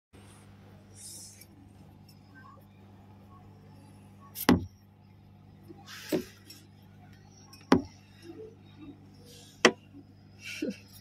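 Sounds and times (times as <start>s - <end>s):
faint steady hum: 0.2s - 11.0s.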